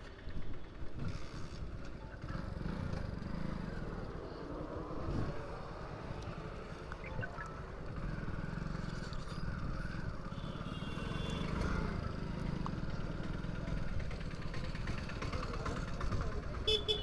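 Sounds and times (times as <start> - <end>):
road noise: 0.0 - 17.0
motorcycle engine rumbling: 0.6 - 17.0.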